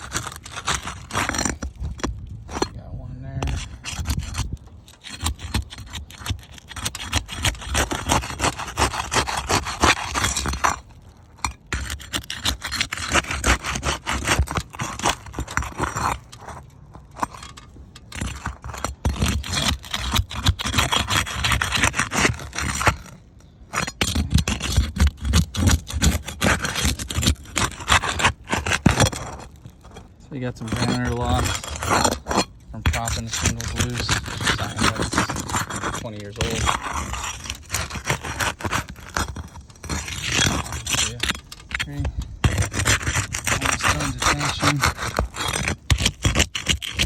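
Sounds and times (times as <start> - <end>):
shingles scraping and crackling: 0.0 - 47.0.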